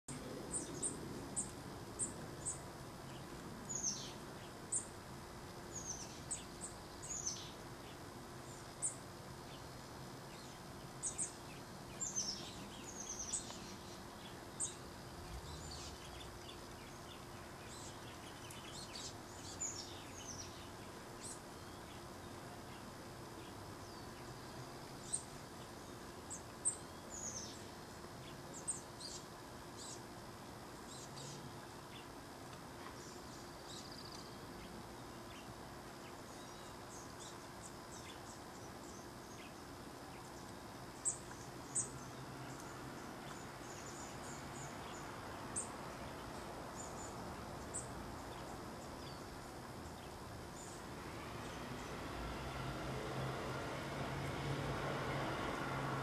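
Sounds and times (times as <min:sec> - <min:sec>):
songbirds chirping: 0:00.0 - 0:56.0
faint hiss: 0:00.1 - 0:56.0.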